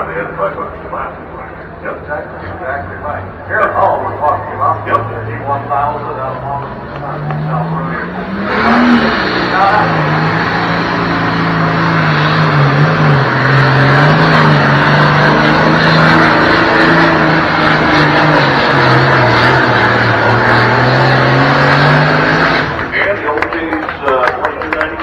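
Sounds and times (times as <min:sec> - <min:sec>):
tractor engine running under load: 0:03.5 - 0:25.0.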